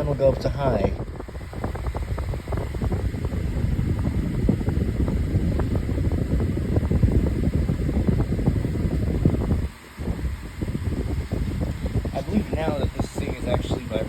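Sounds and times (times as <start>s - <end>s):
fan housing vibrating: 0.0s - 14.0s
table fan rushing air: 0.0s - 14.0s
wind buffeting microphone: 0.0s - 14.0s.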